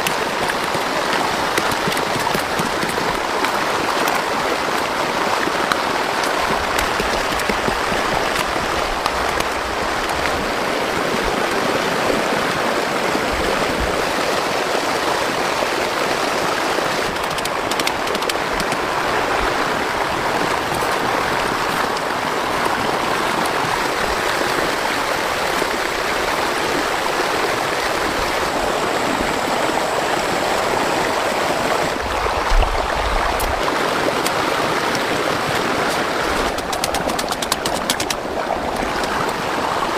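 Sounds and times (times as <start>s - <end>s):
flood water rushing: 0.0s - 39.9s.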